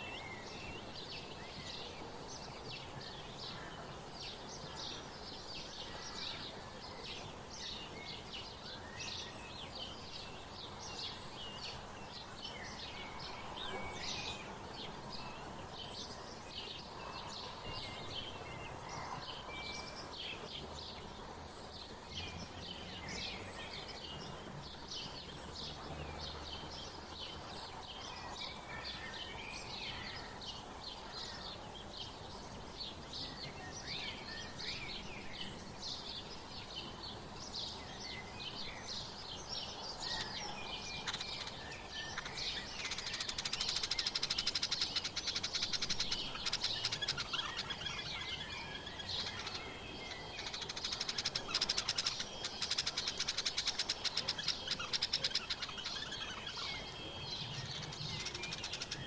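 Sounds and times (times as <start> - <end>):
outdoor background hiss: 0.0 - 59.0
songbirds chirping: 0.0 - 59.0.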